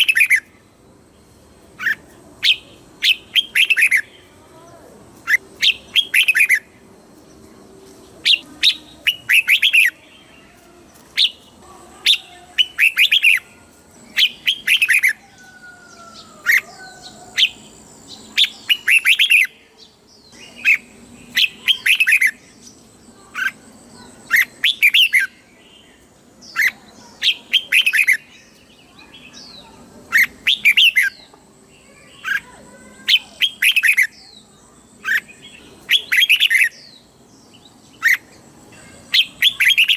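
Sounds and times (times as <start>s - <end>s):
bird singing bright notes: 0.0s - 4.4s, 5.2s - 39.9s.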